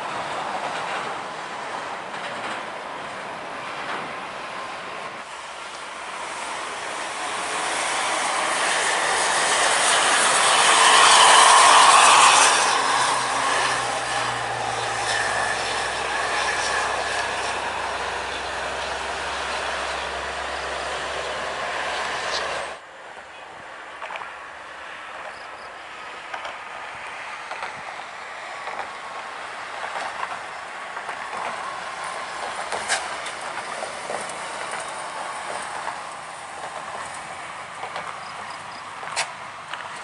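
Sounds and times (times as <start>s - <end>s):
buses passing on a highway: 0.0s - 40.0s
road noise: 0.0s - 40.0s.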